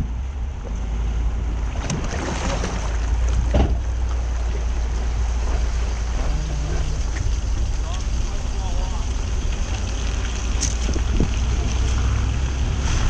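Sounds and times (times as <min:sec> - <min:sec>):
wind buffeting microphone: 0:01.3 - 0:13.0.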